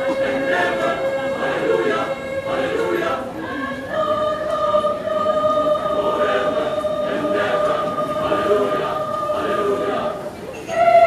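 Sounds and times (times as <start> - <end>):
mixed choir singing: 0.0 - 11.0.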